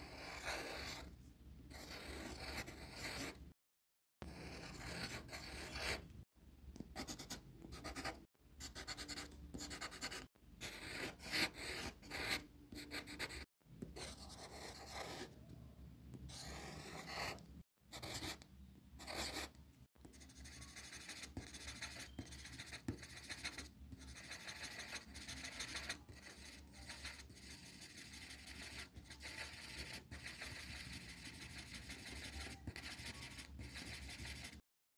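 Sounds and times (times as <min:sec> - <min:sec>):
pencil scratching on paper: 0:00.0 - 0:03.4, 0:04.2 - 0:06.1, 0:07.0 - 0:15.3, 0:16.3 - 0:18.4, 0:19.0 - 0:34.6.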